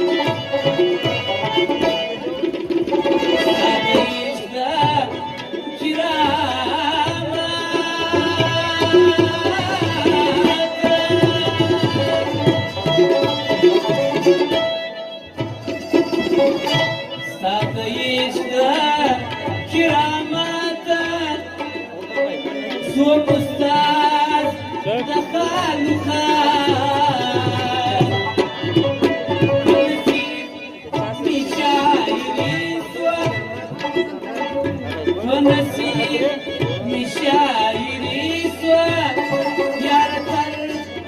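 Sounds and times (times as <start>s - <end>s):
man singing: 0.0s - 41.0s.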